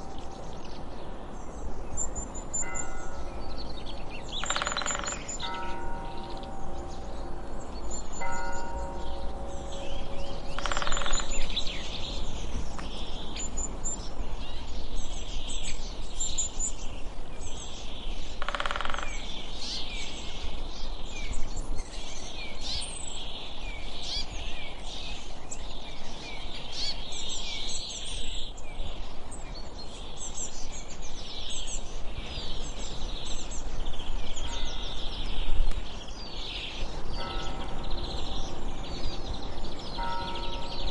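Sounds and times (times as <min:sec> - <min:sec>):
small birds chirping and singing: 0:00.0 - 0:40.9.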